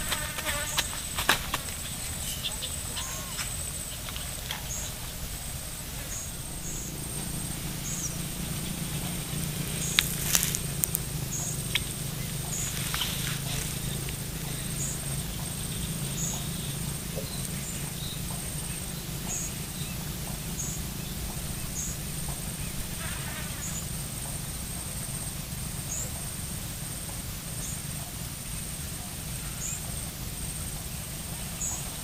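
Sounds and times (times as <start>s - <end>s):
steady high-pitched buzz: 0.0s - 32.0s
steady low hum: 0.0s - 32.0s.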